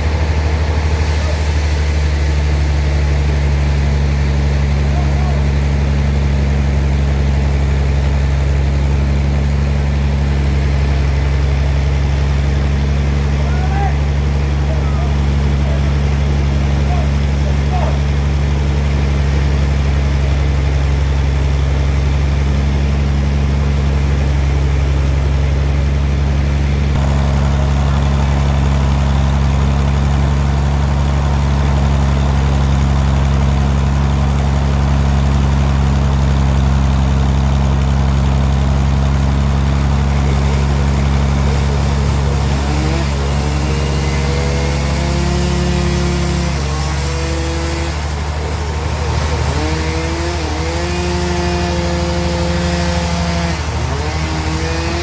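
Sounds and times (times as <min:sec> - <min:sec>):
band sawmill machine drone: 0:00.0 - 0:55.0.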